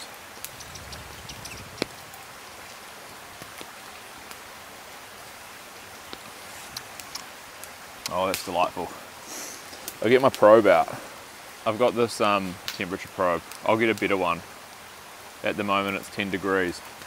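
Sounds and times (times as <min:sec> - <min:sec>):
campfire hissing and crackling: 0:00.0 - 0:17.0.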